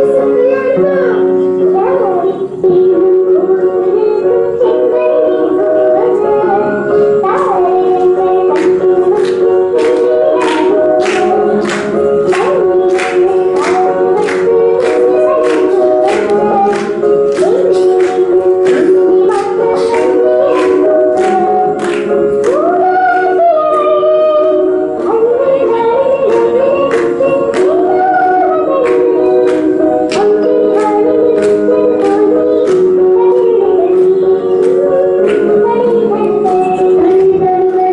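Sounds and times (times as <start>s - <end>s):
held instrumental chords: 0.0s - 37.9s.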